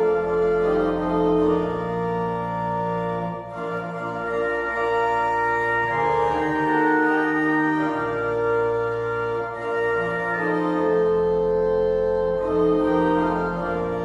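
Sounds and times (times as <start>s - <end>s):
church organ playing chords: 0.0s - 14.0s.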